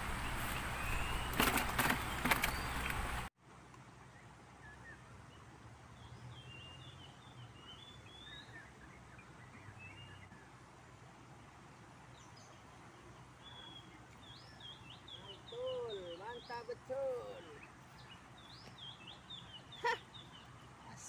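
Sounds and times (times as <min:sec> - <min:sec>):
small birds chirping: 0:00.0 - 0:03.3, 0:04.0 - 0:21.0.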